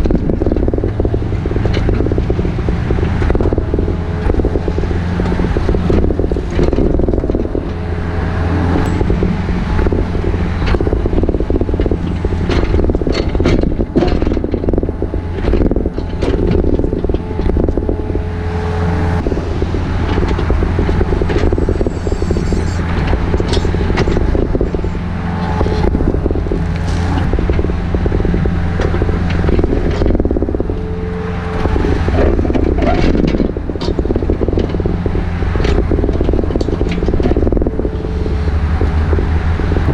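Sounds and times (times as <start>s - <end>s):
rattles and clicks: 0.0s - 18.4s, 19.1s - 39.9s
heavy engine running: 0.0s - 39.9s.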